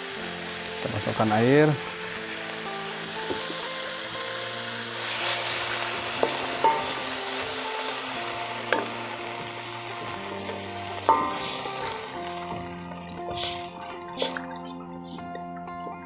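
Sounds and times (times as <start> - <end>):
water sizzling in hot wok: 0.0 - 16.0.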